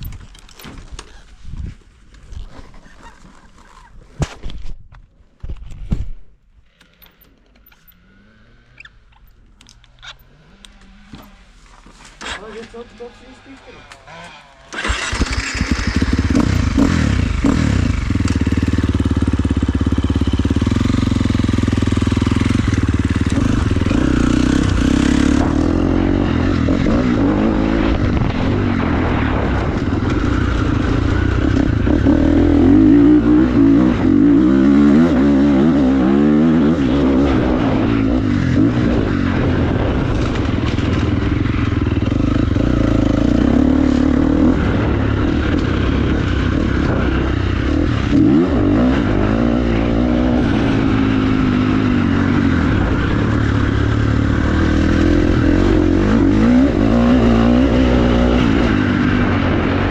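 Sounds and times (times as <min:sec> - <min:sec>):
dirt bike engine revving: 0:10.2 - 0:59.9.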